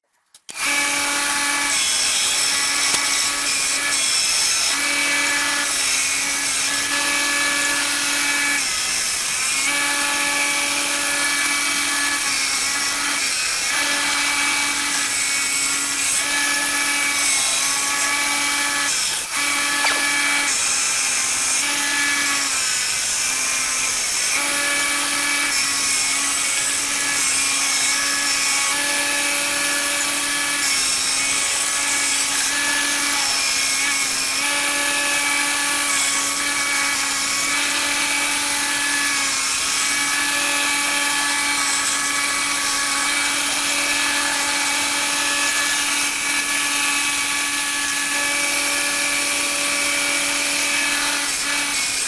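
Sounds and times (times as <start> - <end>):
belt grinder motor hum: 0.5 - 52.0.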